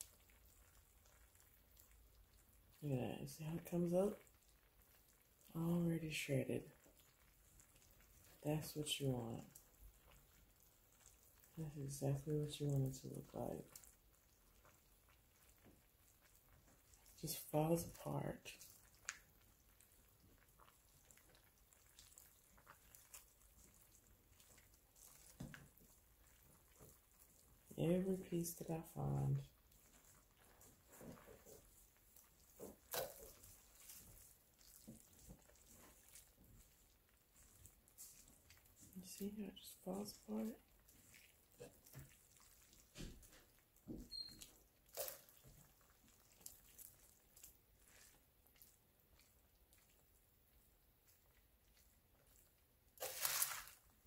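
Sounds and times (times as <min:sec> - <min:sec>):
tongs squelching in wet food: 0:00.0 - 0:02.8, 0:03.5 - 0:54.0.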